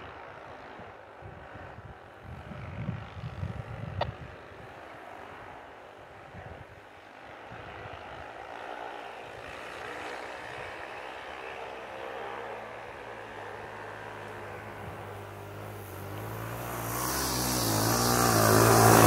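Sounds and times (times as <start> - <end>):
distant snowmobile engine: 3.2 - 19.0.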